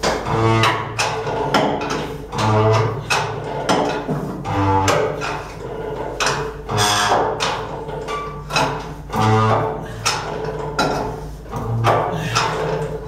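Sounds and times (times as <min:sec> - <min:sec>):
metal threads groaning: 0:00.0 - 0:13.0
sharp metallic knocks: 0:00.0 - 0:13.0.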